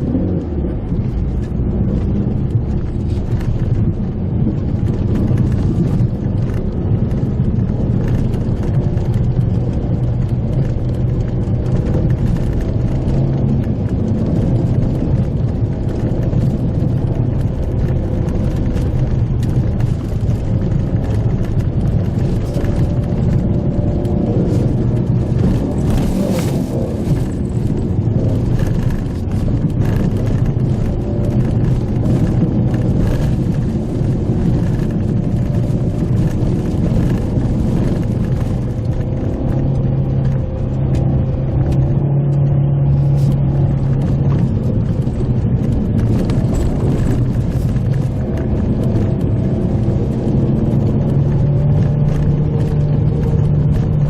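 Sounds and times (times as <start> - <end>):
car engine drone: 0.0 - 54.0
knocks and rattles from road: 0.0 - 54.0.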